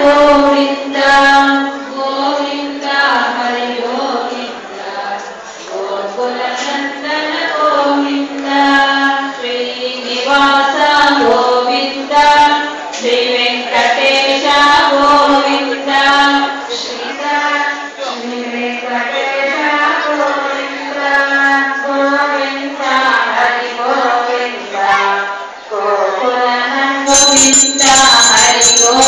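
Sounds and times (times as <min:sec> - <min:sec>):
group singing a devotional chant: 0:00.0 - 0:29.0.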